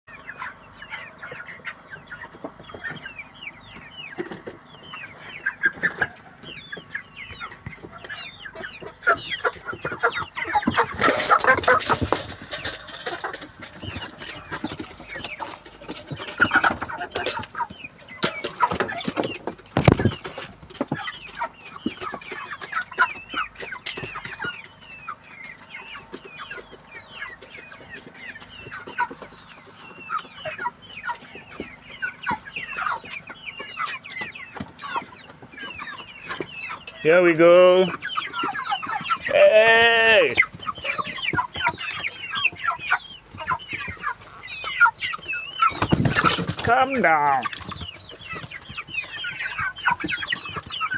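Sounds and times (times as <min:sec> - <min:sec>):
chickens peeping and clucking: 0:00.0 - 0:50.9.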